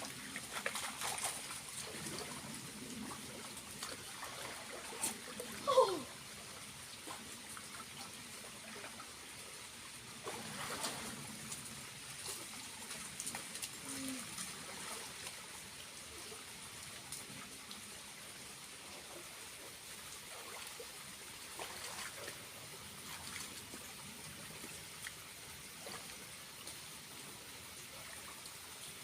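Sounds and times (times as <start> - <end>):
small waterfall splashing: 0.0 - 29.0.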